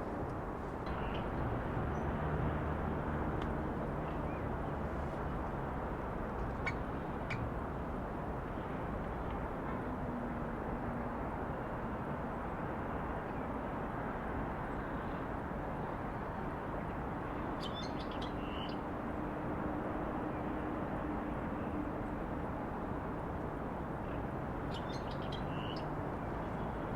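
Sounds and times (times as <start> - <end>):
distant city traffic hum: 0.0 - 26.9.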